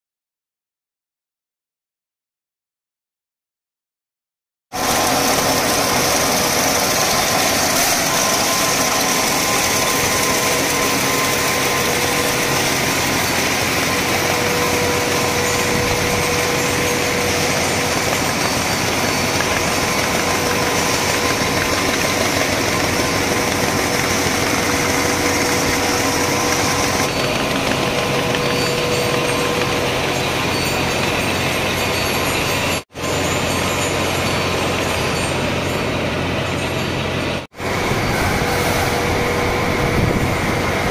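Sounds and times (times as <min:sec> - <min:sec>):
faint steady whine: 0:04.8 - 0:40.9
machinery drone and hiss: 0:04.8 - 0:40.9.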